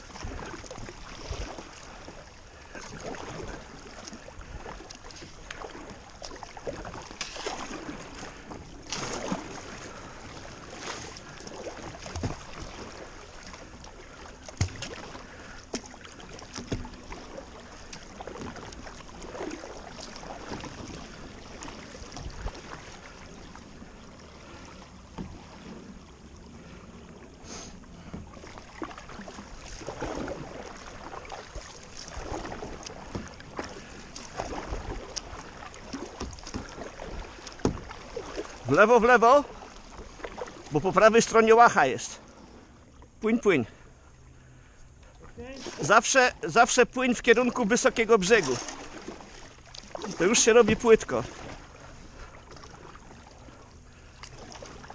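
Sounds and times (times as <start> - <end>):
kayak paddle splashing water: 0.0 - 54.9.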